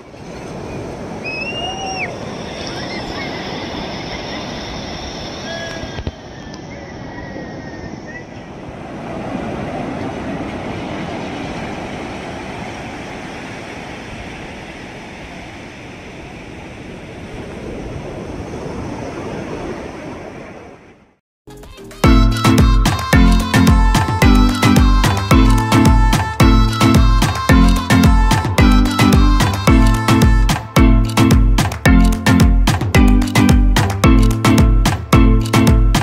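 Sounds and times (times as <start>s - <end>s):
ocean waves breaking on beach: 0.0s - 21.2s, 22.9s - 31.9s.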